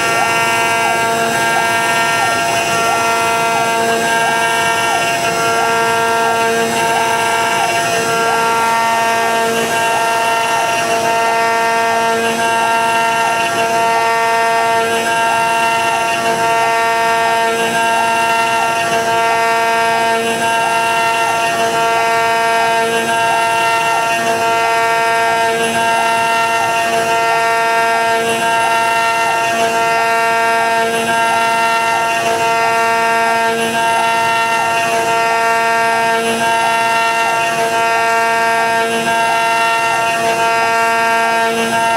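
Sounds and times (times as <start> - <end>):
router spindle whine cutting wood: 0.0 - 41.9.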